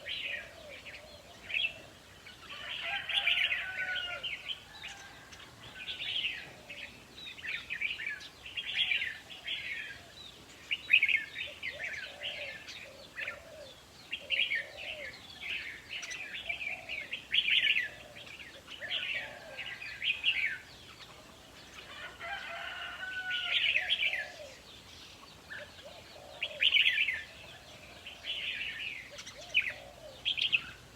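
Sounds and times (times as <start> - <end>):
birds warbling: 0.0 - 30.9.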